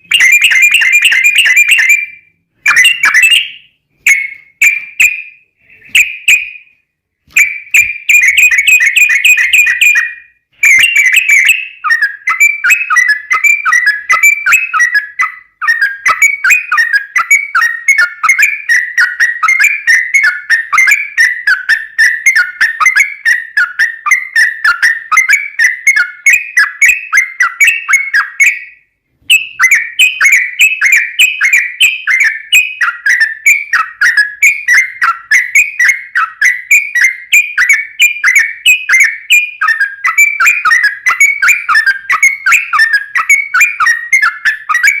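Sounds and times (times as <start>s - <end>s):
bird singing bubbly chirps: 0.0s - 6.6s, 7.4s - 28.7s, 29.3s - 45.0s.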